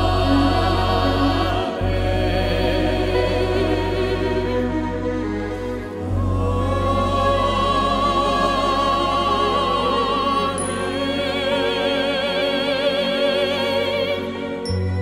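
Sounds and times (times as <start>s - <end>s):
orchestral accompaniment: 0.0s - 15.0s
soprano singing operatic notes: 0.0s - 15.0s.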